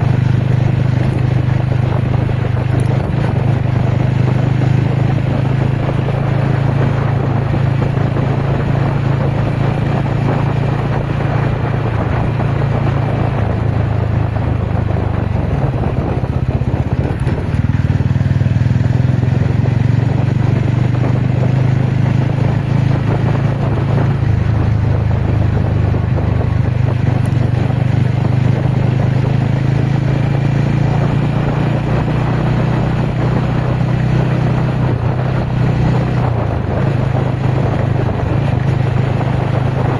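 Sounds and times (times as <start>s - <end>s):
motorcycle engine running: 0.0s - 39.9s
wind and ground noise: 0.0s - 39.9s.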